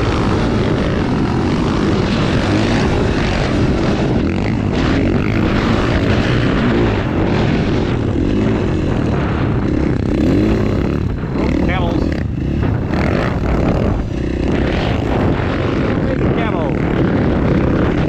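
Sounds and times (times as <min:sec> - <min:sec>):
dirt bike engine revving: 0:00.0 - 0:18.0
wind rush: 0:00.0 - 0:18.0.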